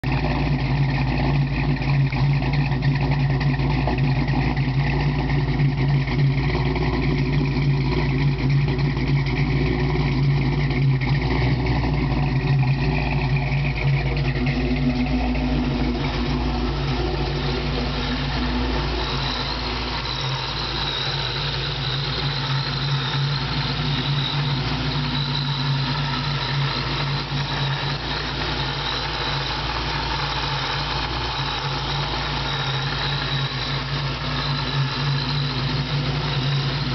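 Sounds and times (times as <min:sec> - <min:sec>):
car engine idling: 0:00.0 - 0:36.9
supercharger high whine: 0:00.0 - 0:36.9.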